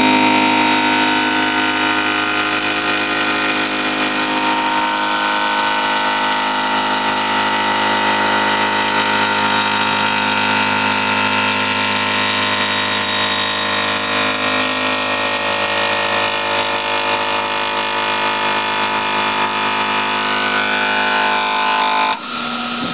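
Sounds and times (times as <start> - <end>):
milling machine spindle whine: 0.0 - 22.9.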